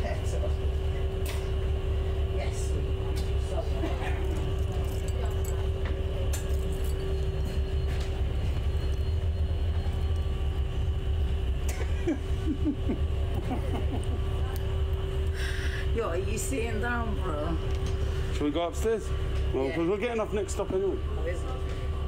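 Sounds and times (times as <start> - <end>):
bus engine rumble: 0.0 - 22.0
constant hum: 0.0 - 22.0.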